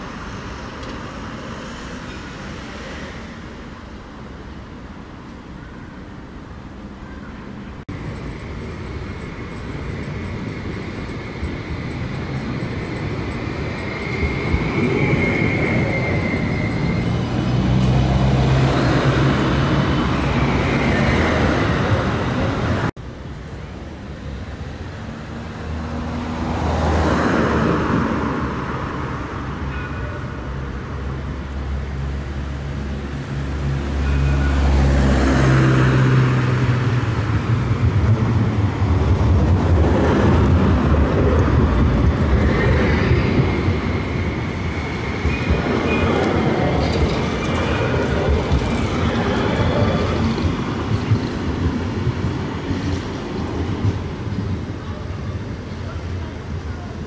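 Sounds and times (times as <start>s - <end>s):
tram passing on track: 0.0s - 57.0s
cars passing: 9.6s - 57.0s.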